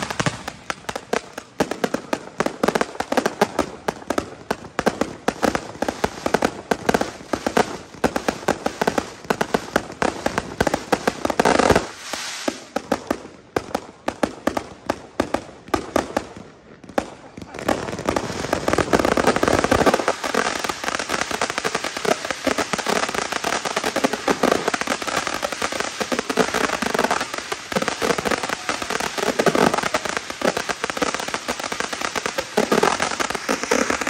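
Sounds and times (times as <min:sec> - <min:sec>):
crackling fireworks stars: 0:00.0 - 0:34.0
fireworks pops and bangs: 0:00.0 - 0:34.0
loud fireworks blast: 0:00.0 - 0:34.0.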